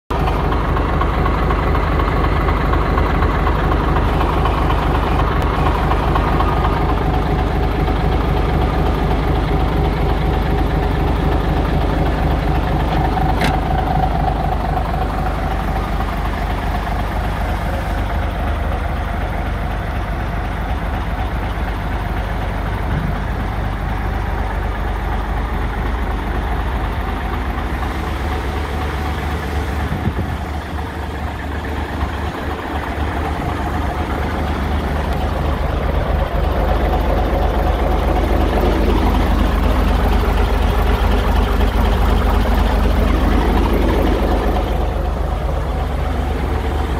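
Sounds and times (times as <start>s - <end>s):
diesel truck engine idling: 0.1s - 46.9s.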